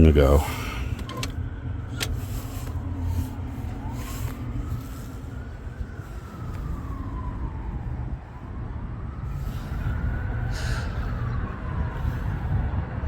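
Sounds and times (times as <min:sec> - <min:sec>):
low traffic rumble: 0:00.0 - 0:13.0
siren wailing: 0:00.2 - 0:13.0.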